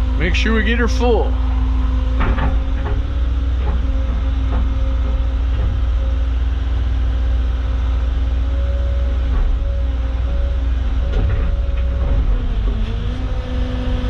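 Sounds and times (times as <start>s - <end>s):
excavator diesel engine and hydraulics: 0.0s - 14.0s.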